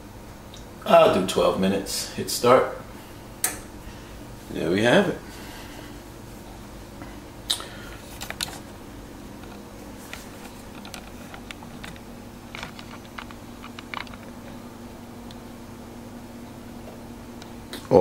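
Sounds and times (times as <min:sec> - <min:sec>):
toaster oven humming: 0:00.0 - 0:18.0.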